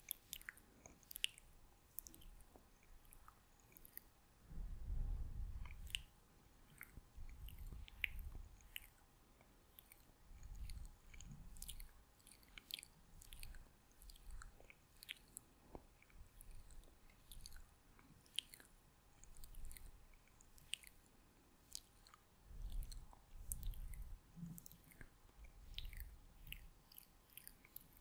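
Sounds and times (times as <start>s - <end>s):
wet lip and tongue clicks: 0.0s - 4.2s, 5.6s - 28.0s.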